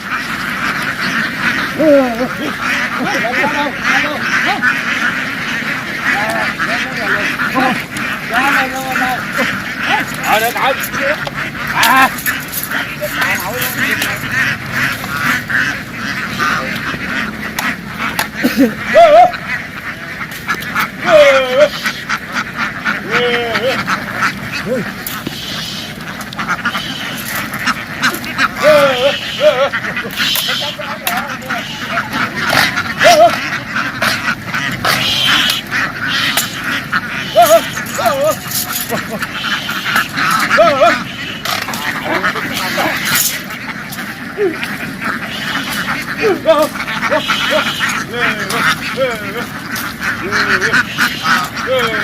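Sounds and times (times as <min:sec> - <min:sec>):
ducks quacking: 0:00.0 - 0:52.0
low wavering duck call: 0:00.0 - 0:52.0.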